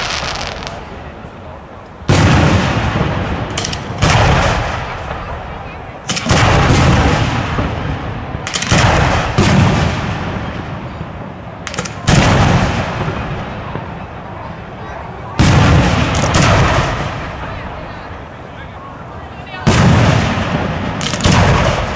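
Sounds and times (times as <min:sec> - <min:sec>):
firework bangs with echo: 0:00.0 - 0:01.1, 0:02.0 - 0:14.6, 0:15.2 - 0:18.3, 0:19.5 - 0:21.9.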